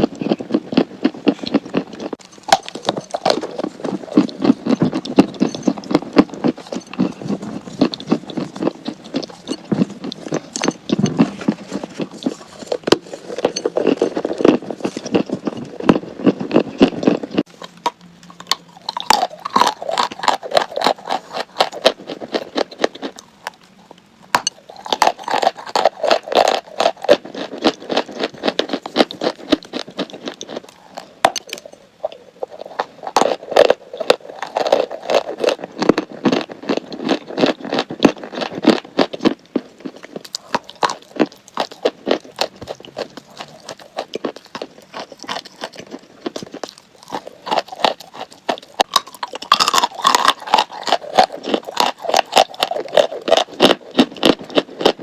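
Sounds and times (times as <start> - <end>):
chalk crunching while chewed: 0.0 - 55.0.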